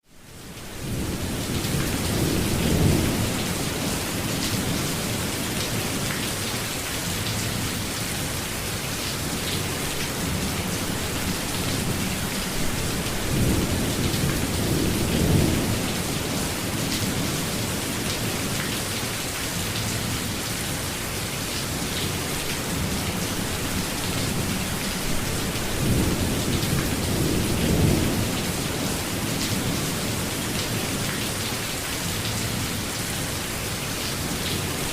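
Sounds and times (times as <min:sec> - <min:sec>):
steady rainfall: 0:00.0 - 0:34.9.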